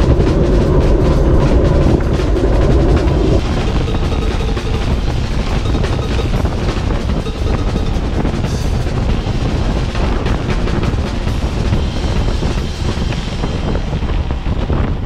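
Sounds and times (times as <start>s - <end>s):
bicycle road rattle: 0.0s - 15.0s
wind rumble on microphone: 0.0s - 15.0s.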